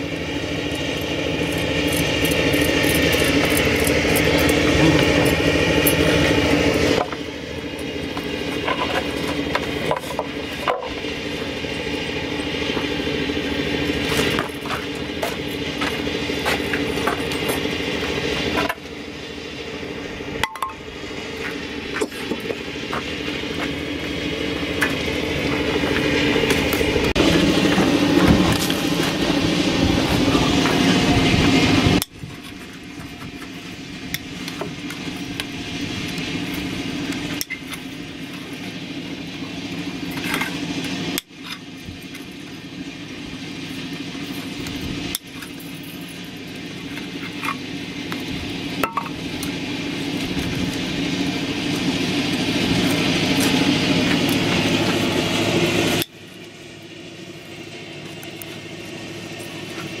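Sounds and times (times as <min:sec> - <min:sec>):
motor-like hum: 0:00.0 - 1:00.0.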